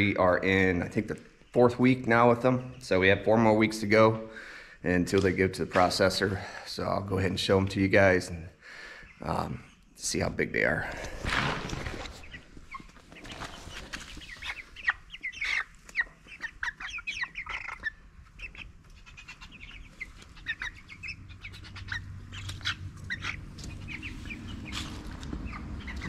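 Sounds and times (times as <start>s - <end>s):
chickens peeping and chirping: 0.0s - 26.0s.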